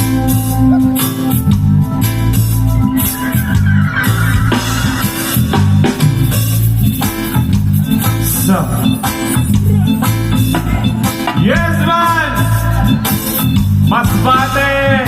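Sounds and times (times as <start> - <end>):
bass line: 0.0 - 15.0
drums: 0.0 - 15.0
guitar: 0.0 - 15.0
organ: 0.0 - 15.0.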